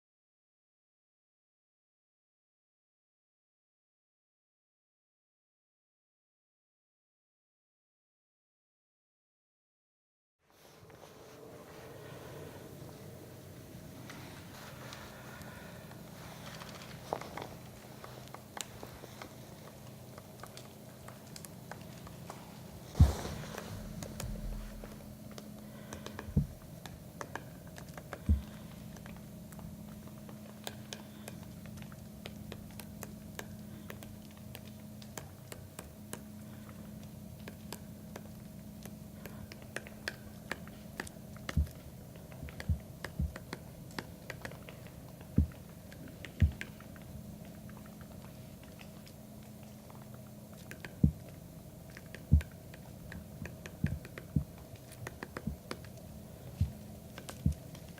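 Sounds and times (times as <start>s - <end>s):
faint steady hum: 10.5s - 57.9s.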